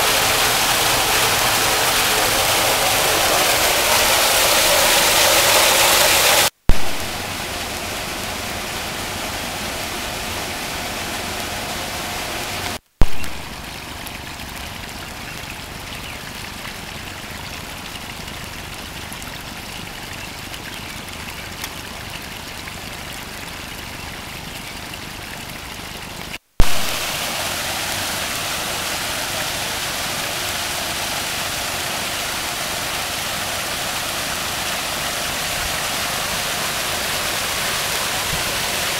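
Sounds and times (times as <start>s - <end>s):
rushing waterfall: 0.0s - 38.9s.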